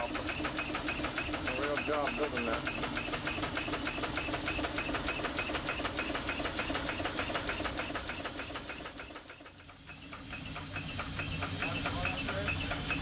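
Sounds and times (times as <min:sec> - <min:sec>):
steam engine knocking: 0:00.0 - 0:13.0.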